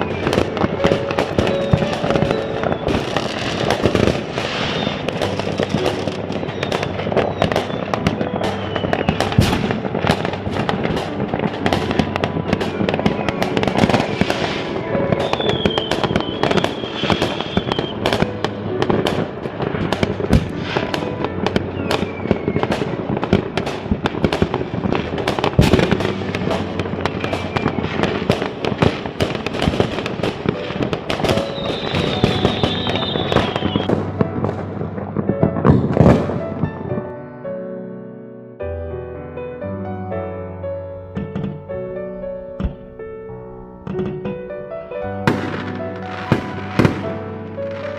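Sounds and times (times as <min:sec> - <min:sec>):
fireworks crackling bangs: 0:00.0 - 0:37.2, 0:41.1 - 0:47.9
whistling fireworks: 0:00.0 - 0:37.2, 0:43.8 - 0:47.9.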